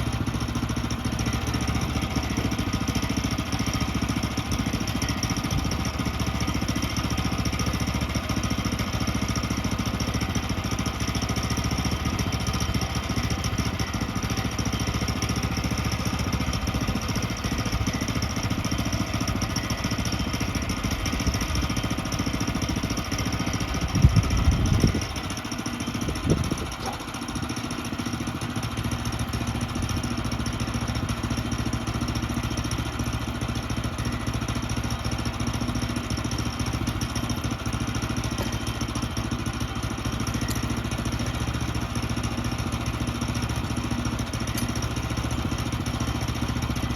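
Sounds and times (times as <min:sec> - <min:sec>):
sawmill gas engine running: 0:00.0 - 0:46.9.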